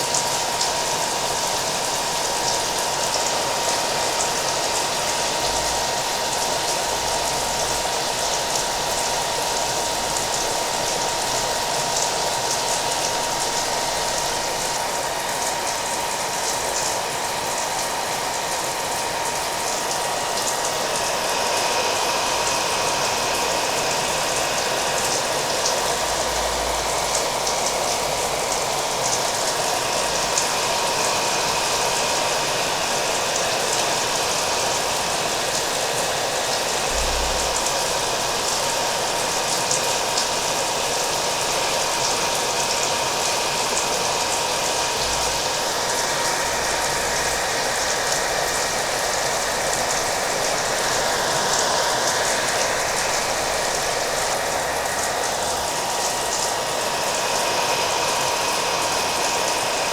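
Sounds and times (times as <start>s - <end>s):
hair dryer blowing: 0.0s - 59.9s
rain: 0.0s - 59.9s.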